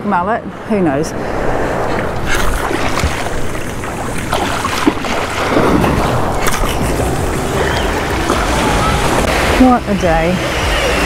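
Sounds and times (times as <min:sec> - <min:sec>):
wind buffeting microphone: 0:00.0 - 0:11.0
water crashing: 0:00.6 - 0:11.0
surf breaking on sand: 0:00.8 - 0:11.0.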